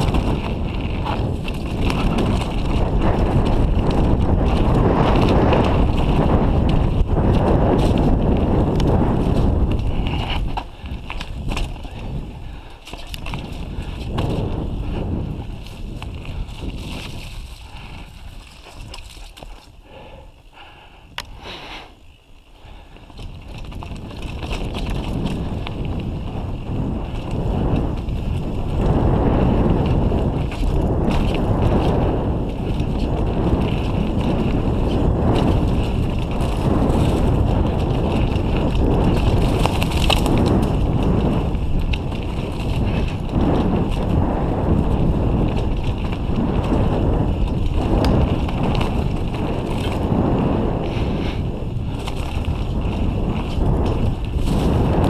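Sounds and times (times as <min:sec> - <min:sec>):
tyre rumble on dirt: 0:00.0 - 0:19.6, 0:23.2 - 0:55.0
bike rattles and clicks: 0:00.0 - 0:55.0
wind buffeting microphone: 0:00.0 - 0:55.0.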